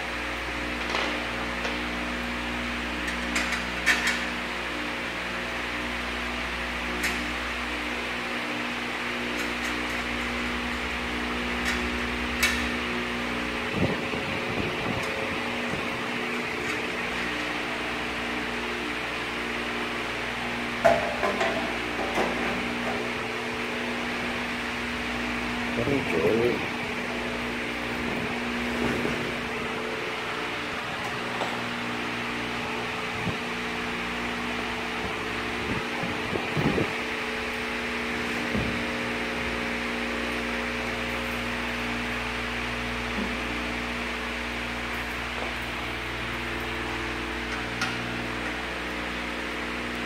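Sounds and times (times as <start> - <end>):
fan-like hum: 0.0 - 50.0.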